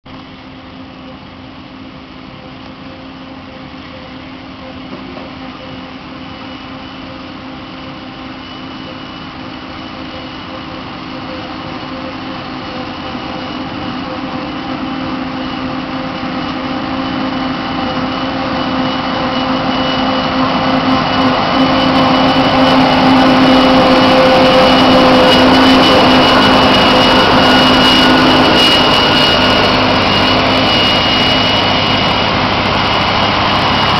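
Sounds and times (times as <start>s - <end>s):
forage harvester drone with whine: 0.1s - 33.9s
truck engine running: 0.1s - 33.9s.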